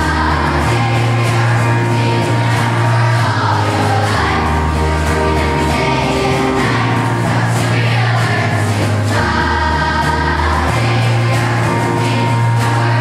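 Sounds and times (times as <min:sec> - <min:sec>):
acoustic guitars: 0:00.0 - 0:13.0
children's choir singing: 0:00.0 - 0:13.0
sustained bass notes: 0:00.0 - 0:13.0.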